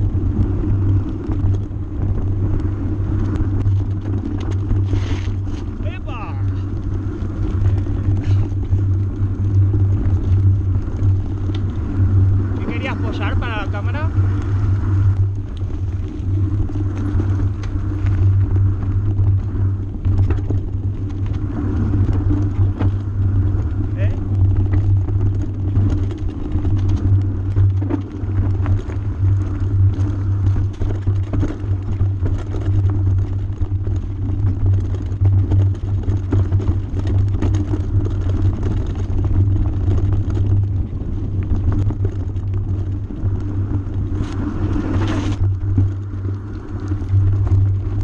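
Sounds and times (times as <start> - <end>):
low rumble of wind and vibration: 0.0 - 48.0
tyres and frame rattling on stones: 3.4 - 14.4, 15.2 - 48.0.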